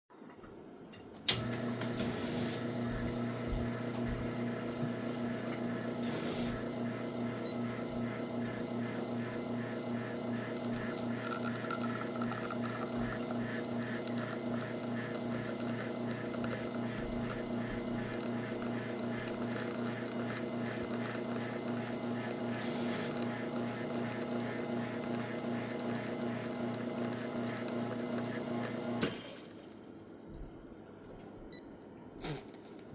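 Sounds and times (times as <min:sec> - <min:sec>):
espresso machine pump humming: 0:01.3 - 0:29.1.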